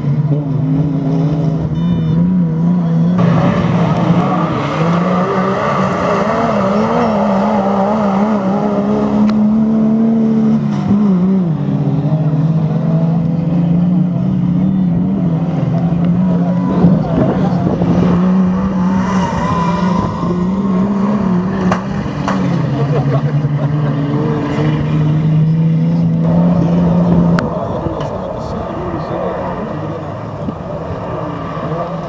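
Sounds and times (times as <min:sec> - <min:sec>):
racing truck engines revving: 0:00.0 - 0:32.0.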